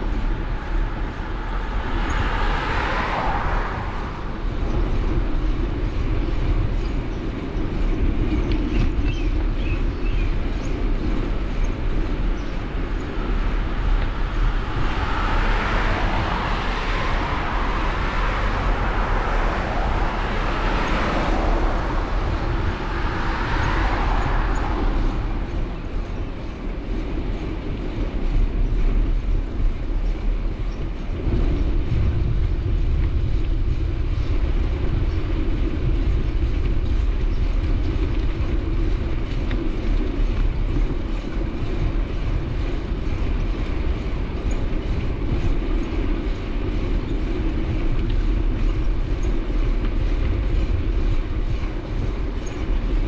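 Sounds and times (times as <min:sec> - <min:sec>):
vehicle travel hiss: 0:00.0 - 0:09.2, 0:10.6 - 0:53.0
deep low rumble: 0:00.0 - 0:53.0.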